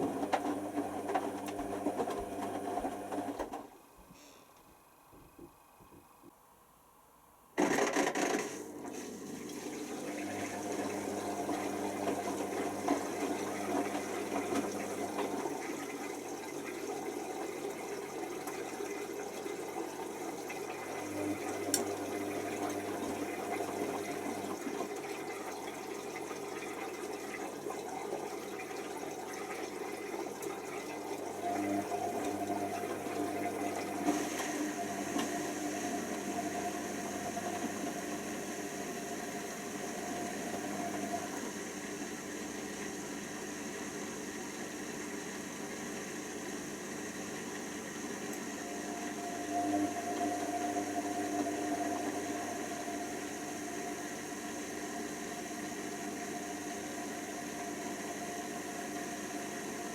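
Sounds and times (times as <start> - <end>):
washer dryer running: 0.0 - 4.0, 7.6 - 59.9
water running into machine: 7.6 - 59.9.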